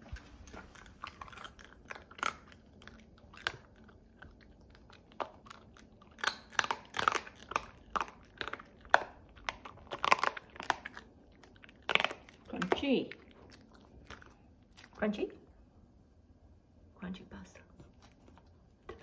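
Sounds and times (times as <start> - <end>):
dog crunching dry pasta: 0.0 - 15.4, 17.8 - 19.0.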